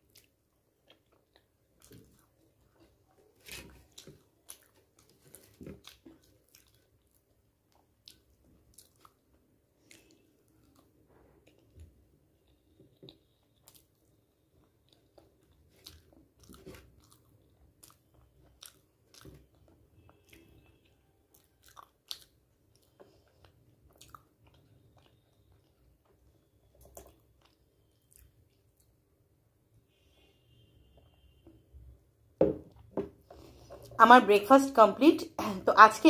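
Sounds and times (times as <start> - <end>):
faint close-up chewing: 0.0 - 31.4.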